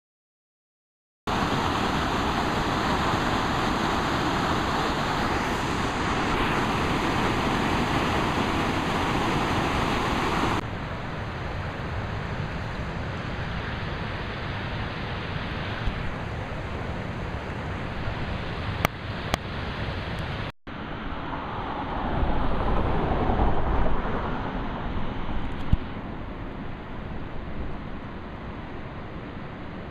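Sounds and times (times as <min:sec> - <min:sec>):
river water rushing over a weir: 0:01.3 - 0:29.9.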